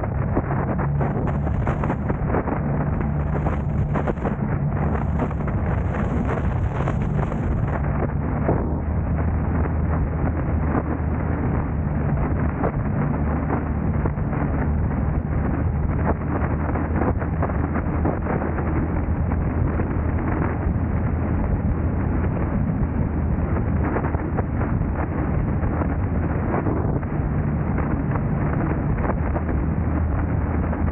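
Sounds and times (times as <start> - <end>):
low hum: 0.0 - 30.9
road and wind noise: 0.0 - 30.9.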